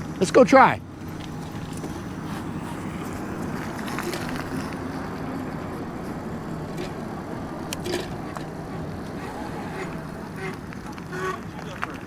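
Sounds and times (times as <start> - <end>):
low motor hum: 0.0 - 12.0
wind and tyre noise: 0.0 - 12.0.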